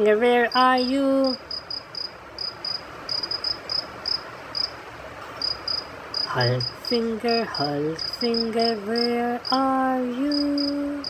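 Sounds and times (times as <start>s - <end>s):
faint steady hiss: 0.0s - 11.0s
insect chirping: 0.3s - 11.0s.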